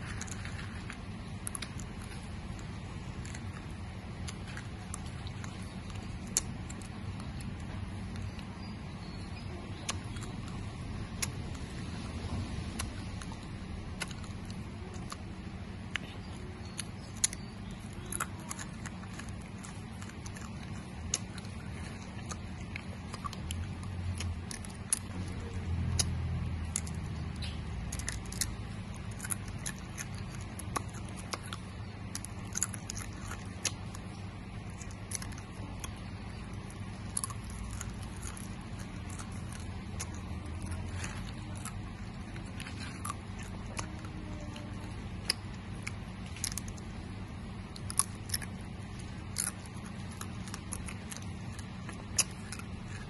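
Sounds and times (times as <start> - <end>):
crunchy chips being chewed: 0.0 - 53.0
steady low hum: 0.0 - 53.0.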